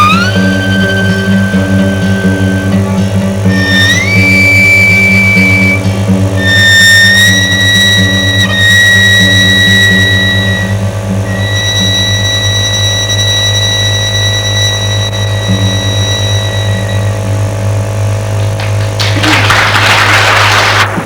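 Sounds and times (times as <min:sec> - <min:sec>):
violin and guitar duo music: 0:00.0 - 0:18.9
loud burst of noise: 0:00.0 - 0:21.0
steady low hum: 0:00.0 - 0:21.0.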